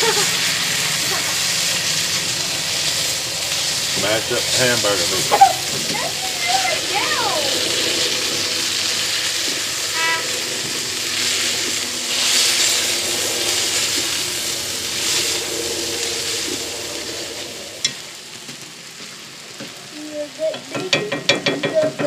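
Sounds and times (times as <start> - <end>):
meat sizzling in a skillet: 0.0 - 22.0.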